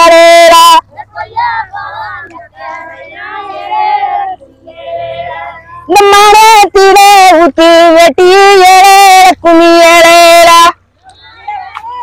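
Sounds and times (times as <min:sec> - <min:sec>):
loud voice singing close by: 0:00.0 - 0:02.8, 0:03.6 - 0:12.0.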